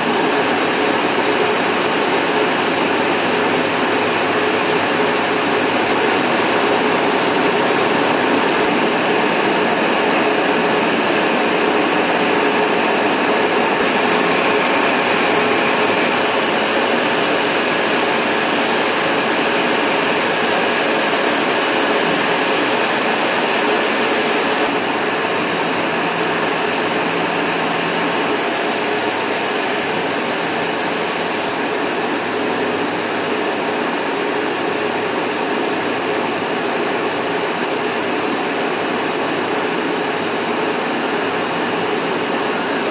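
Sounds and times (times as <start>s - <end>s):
machinery running: 0.0s - 42.9s.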